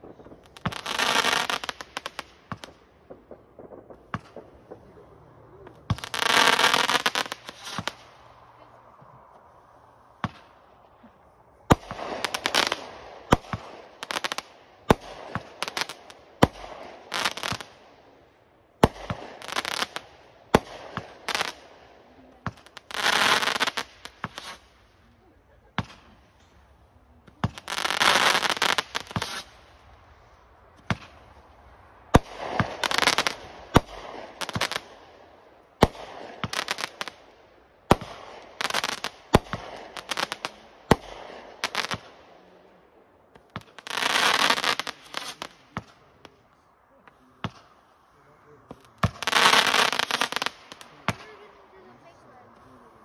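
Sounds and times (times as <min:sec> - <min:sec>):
fireworks bangs: 0:00.0 - 0:09.2, 0:09.8 - 0:11.0, 0:11.6 - 0:18.0, 0:18.8 - 0:25.0, 0:25.6 - 0:42.4, 0:43.3 - 0:46.4, 0:48.6 - 0:51.9
fireworks crackling: 0:00.0 - 0:53.0.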